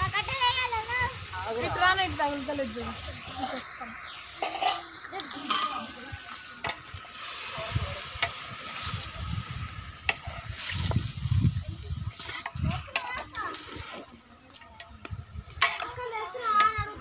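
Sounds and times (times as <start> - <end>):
curry sizzling in a pan: 0.0 - 17.0.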